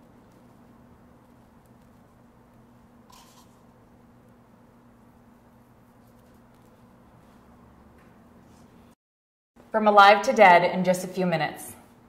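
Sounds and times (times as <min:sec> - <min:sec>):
low hum with faint hiss: 0:00.0 - 0:09.0, 0:09.6 - 0:12.0.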